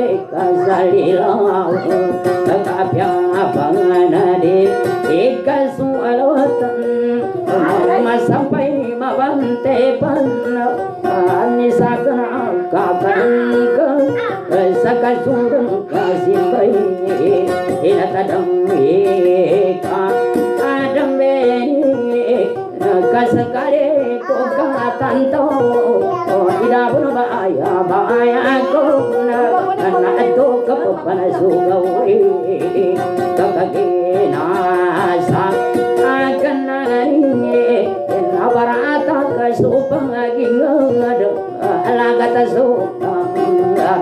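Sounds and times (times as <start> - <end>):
solo acoustic guitar: 0.0 - 44.0.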